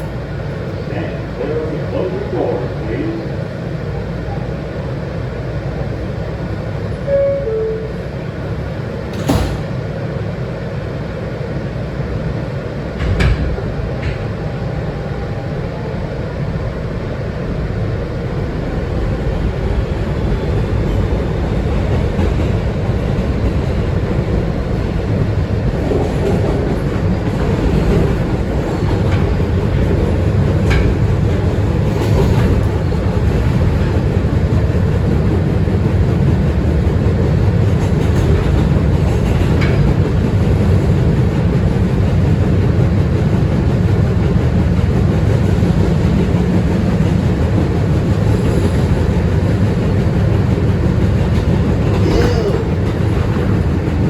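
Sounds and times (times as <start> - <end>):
subway car rumbling on track: 0.0 - 54.0.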